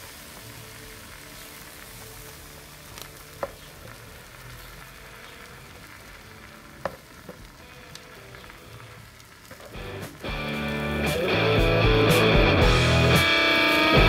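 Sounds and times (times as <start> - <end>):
chicken wings sizzling on grill: 0.0 - 14.0.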